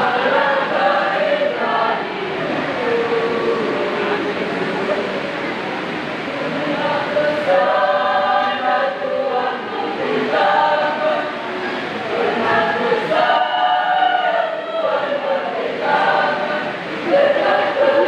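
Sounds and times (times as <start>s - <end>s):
church choir singing: 0.0s - 5.2s, 6.4s - 18.0s.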